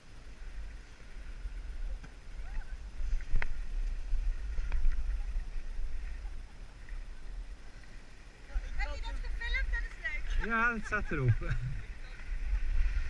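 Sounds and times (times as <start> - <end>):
wind buffeting microphone: 1.2 - 13.0.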